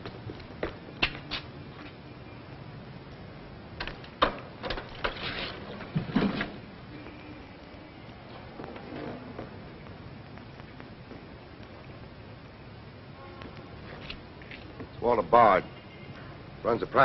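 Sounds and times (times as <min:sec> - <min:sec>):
film soundtrack hiss: 0:00.0 - 0:17.0.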